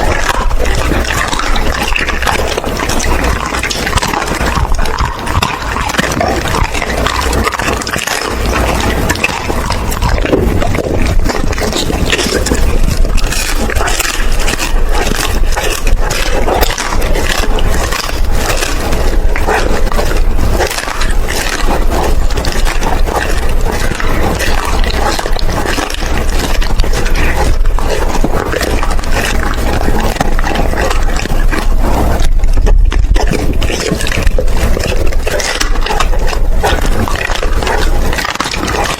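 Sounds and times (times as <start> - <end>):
dog chewing and crunching food: 0.0 - 38.9.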